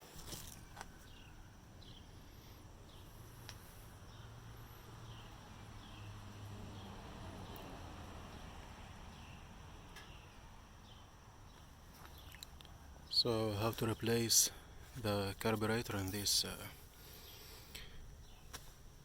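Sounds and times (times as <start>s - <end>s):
bird chirping: 0.0s - 8.5s, 9.1s - 18.6s
steady low hum: 0.0s - 19.0s.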